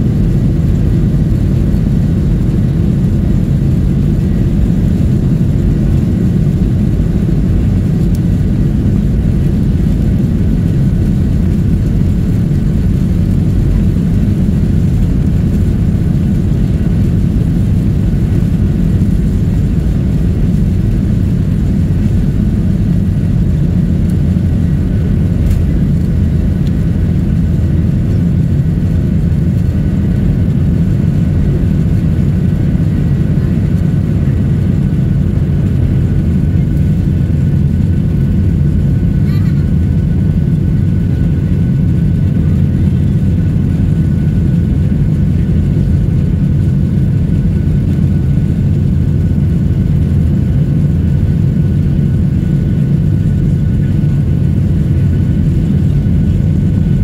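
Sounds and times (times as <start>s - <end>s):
faint high engine whine: 0.0s - 57.0s
jet engine rumble in cabin: 0.0s - 57.0s.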